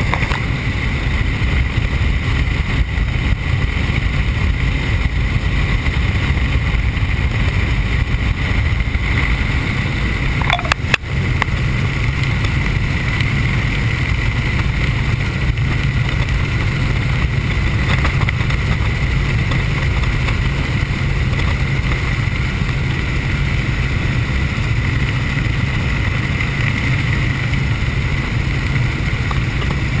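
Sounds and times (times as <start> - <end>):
helicopter rotor and engine: 0.0 - 30.0.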